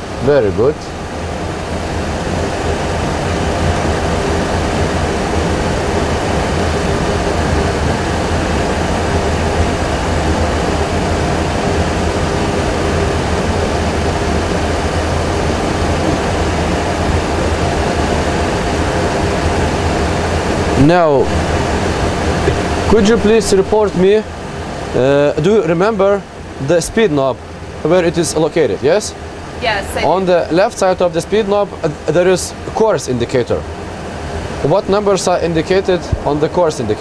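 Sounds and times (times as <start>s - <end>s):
jet engine and airflow hum: 0.0s - 37.0s.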